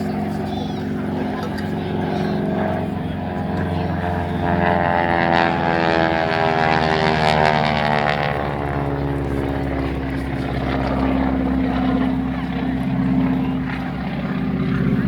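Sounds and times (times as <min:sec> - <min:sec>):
propeller airplane flying past: 0:00.0 - 0:15.0.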